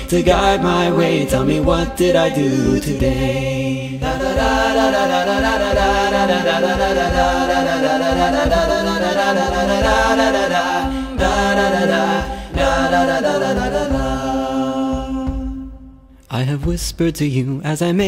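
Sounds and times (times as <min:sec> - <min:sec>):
voices singing in harmony: 0:00.0 - 0:16.5
regular beat: 0:00.0 - 0:17.4.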